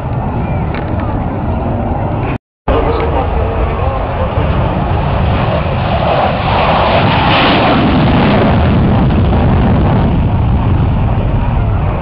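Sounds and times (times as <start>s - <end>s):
fighter jet fly-by roar: 0.0s - 12.0s.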